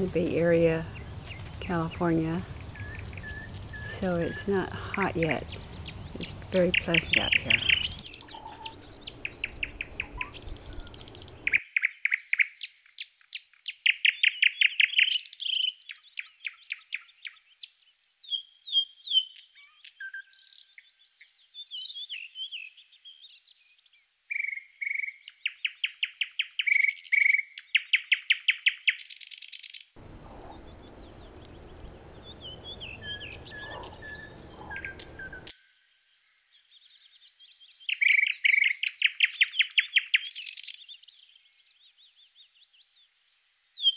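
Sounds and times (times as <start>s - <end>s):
songbirds chirping and singing: 0.0s - 12.5s, 13.4s - 43.9s.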